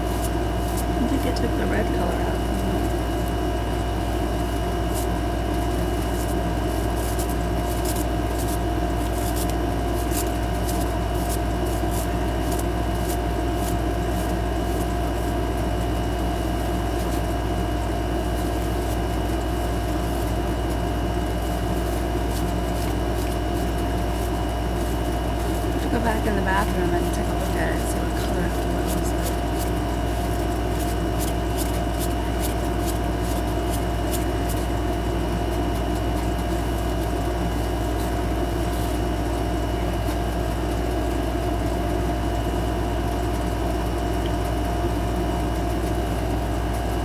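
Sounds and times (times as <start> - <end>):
machine hum with whining tones: 0.0 - 47.0.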